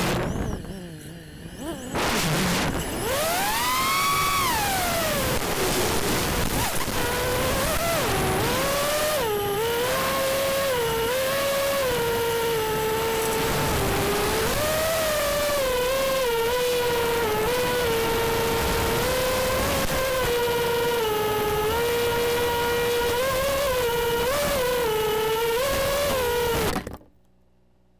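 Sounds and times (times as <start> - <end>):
quadcopter motors whining: 0.0 - 27.0.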